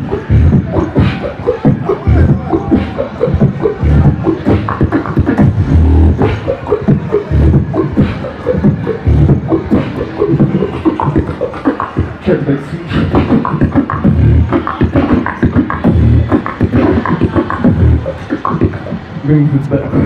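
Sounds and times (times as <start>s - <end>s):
beatbox clicks and snares: 0.0s - 12.1s, 12.9s - 19.0s
beatbox deep bass sounds: 0.0s - 20.0s.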